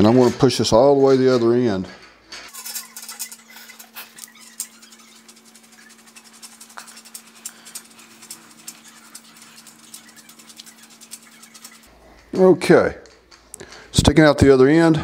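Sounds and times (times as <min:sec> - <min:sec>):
drive belt clicking and scraping: 0:00.0 - 0:14.9.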